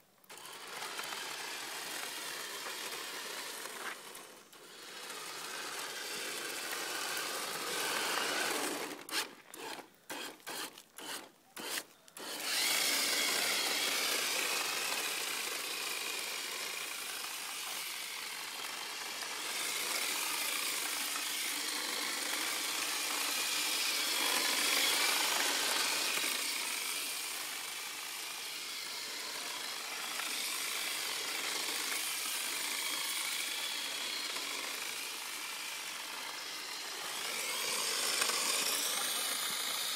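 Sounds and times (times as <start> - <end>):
toy car motor whining: 0.0 - 39.9.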